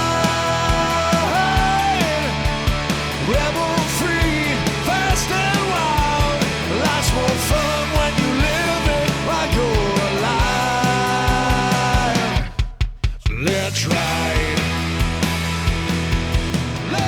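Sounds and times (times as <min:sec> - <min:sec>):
rock lead guitar line: 0:00.0 - 0:12.8, 0:13.4 - 0:17.0
bass: 0:00.0 - 0:17.0
drum beat: 0:00.0 - 0:17.0.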